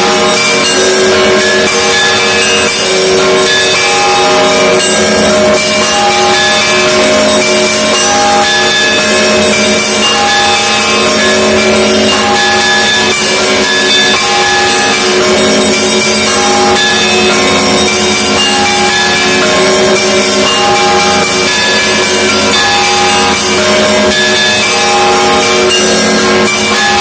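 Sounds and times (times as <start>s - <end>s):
large bells ringing: 0.0s - 27.0s
small bells high notes: 0.0s - 27.0s.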